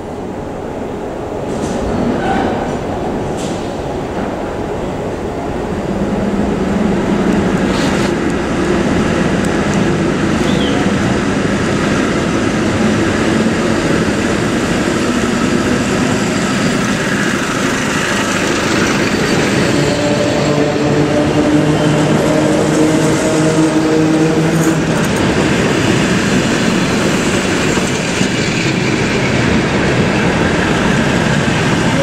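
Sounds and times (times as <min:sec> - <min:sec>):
train rolling rumble: 0:00.0 - 0:32.0.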